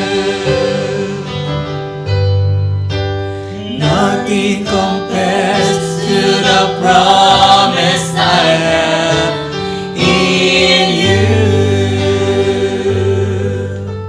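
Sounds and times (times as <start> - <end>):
group singing: 0.0 - 1.7, 3.6 - 14.0
worship band playing: 0.0 - 14.0.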